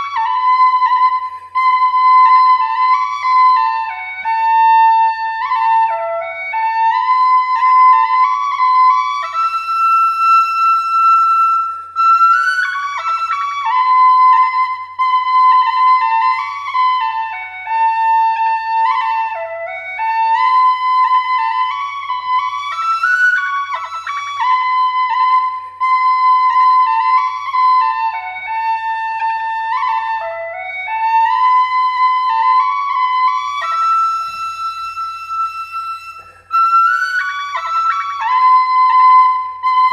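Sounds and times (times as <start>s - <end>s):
solo flute melody: 0.0s - 39.9s.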